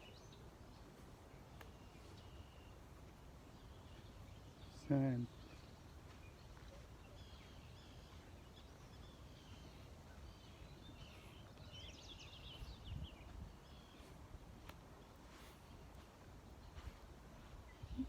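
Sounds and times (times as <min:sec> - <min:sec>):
faint birdsong chirps: 0:00.0 - 0:18.0.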